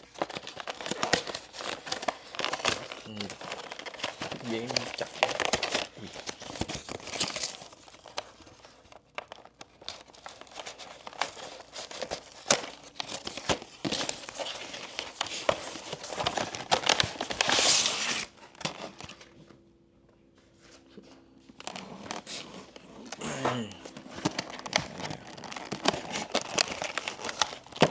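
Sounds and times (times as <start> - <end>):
packaging rustling and crinkling: 0.0 - 19.5, 20.5 - 27.9.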